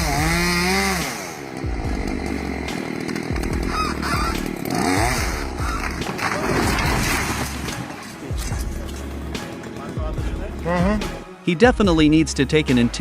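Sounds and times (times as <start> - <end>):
chainsaw running: 0.0 - 11.3.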